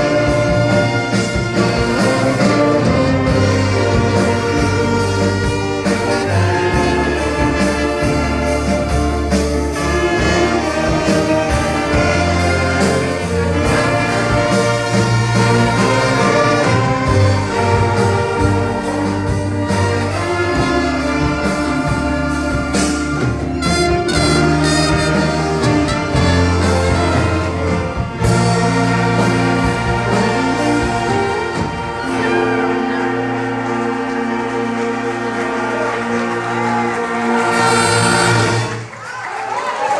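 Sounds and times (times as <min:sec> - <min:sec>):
orchestra with brass playing: 0:00.0 - 0:39.9.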